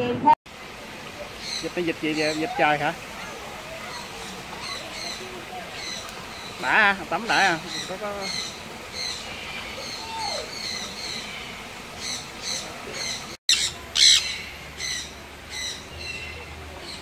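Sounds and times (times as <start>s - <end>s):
birds squawking and chirping: 1.0s - 17.0s.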